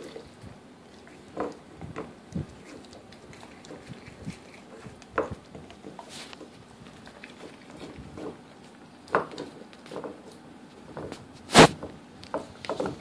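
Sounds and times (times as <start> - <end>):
puppy licking and gnawing bone: 0.0 - 13.0.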